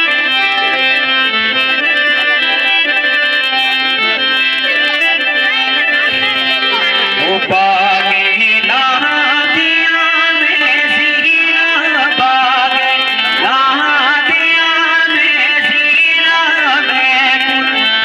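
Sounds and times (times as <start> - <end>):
folk song with ornamented melody: 0.0 - 18.0.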